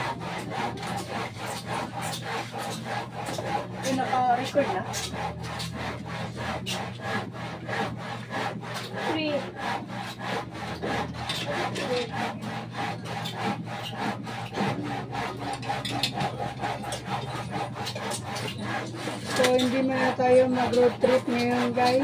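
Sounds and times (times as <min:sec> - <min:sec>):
hand tool rasping on concrete: 0:00.0 - 0:22.0.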